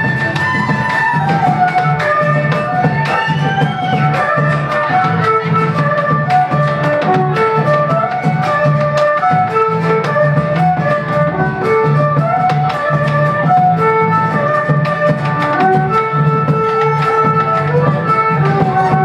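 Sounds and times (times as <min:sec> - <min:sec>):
acoustic guitars: 0:00.0 - 0:19.0
bass drum beating: 0:00.0 - 0:19.0.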